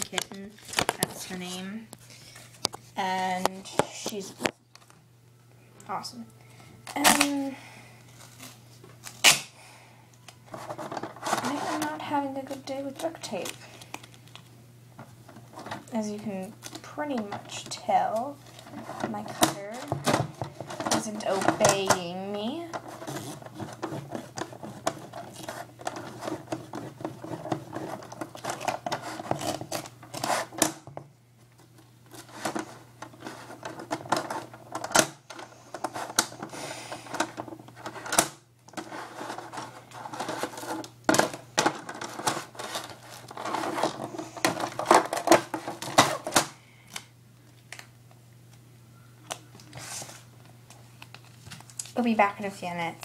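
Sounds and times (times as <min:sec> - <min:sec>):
duct tape rustling and scraping: 0:00.0 - 0:05.0, 0:06.8 - 0:09.5, 0:10.2 - 0:47.9, 0:49.2 - 0:52.2
steady low hum: 0:00.0 - 0:53.0.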